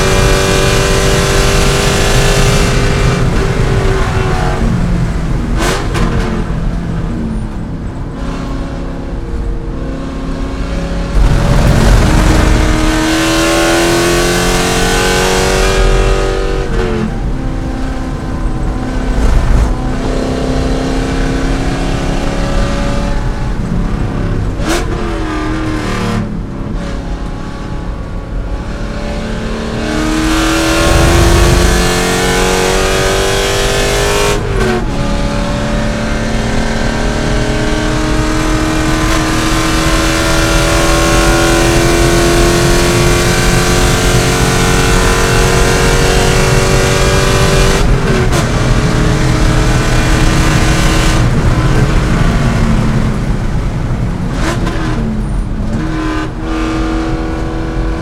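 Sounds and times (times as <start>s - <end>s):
car engine at full throttle: 0.0s - 58.0s
tyre and wind noise: 10.3s - 58.0s.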